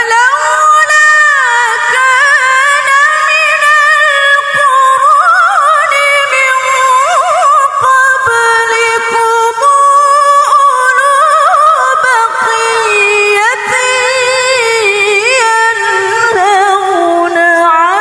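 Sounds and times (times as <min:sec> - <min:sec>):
woman chanting melodically: 0:00.0 - 0:18.0.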